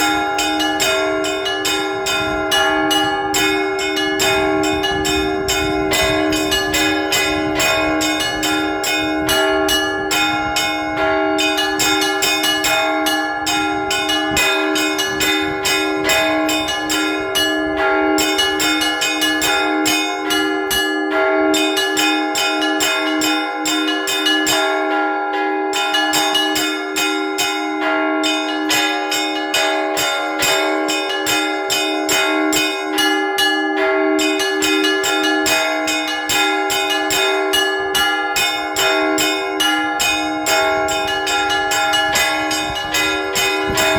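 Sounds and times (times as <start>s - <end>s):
church bells ringing in rhythm: 0.0s - 43.9s
low bell tolling steadily: 0.0s - 43.9s.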